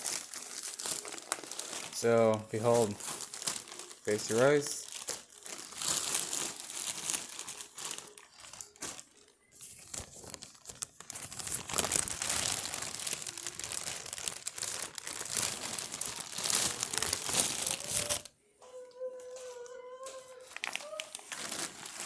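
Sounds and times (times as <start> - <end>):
packaging crinkling and tearing: 0.0 - 18.3, 19.4 - 22.0.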